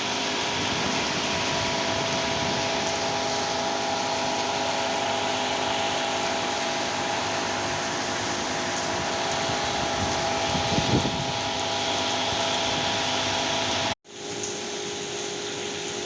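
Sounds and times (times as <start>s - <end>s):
heavy rain in strong wind: 0.0s - 14.0s.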